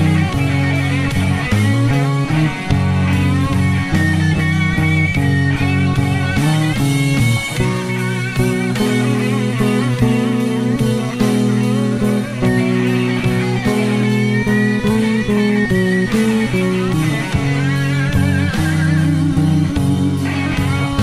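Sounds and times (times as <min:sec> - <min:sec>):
drums: 0:00.0 - 0:21.0
electric bass walking line: 0:00.0 - 0:21.0
electric guitar lead with vibrato: 0:00.0 - 0:21.0.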